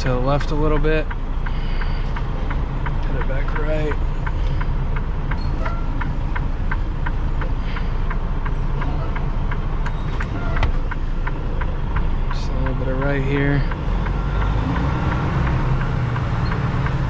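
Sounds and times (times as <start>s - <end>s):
diesel truck engine rumbling: 0.0s - 17.0s
regular clicking: 0.1s - 17.0s.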